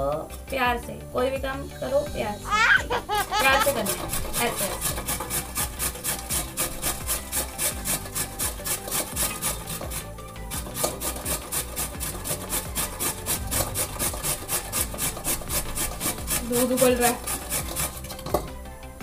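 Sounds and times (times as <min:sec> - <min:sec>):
carrot grating on metal grater: 0:03.1 - 0:18.5.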